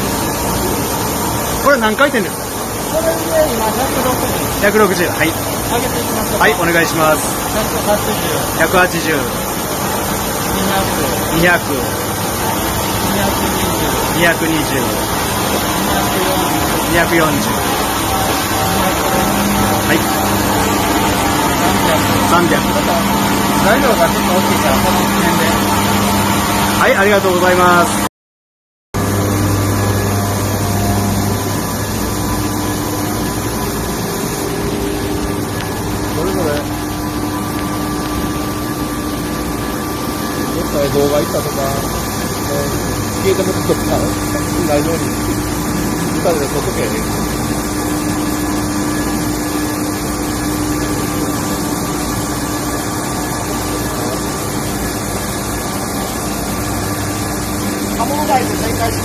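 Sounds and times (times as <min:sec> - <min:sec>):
lathe humming: 0:00.0 - 0:28.1, 0:29.0 - 0:59.0.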